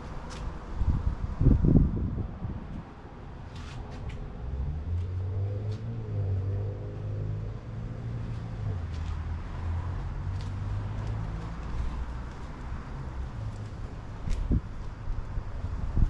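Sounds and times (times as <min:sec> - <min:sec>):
vehicle engine humming: 0:02.8 - 0:16.0.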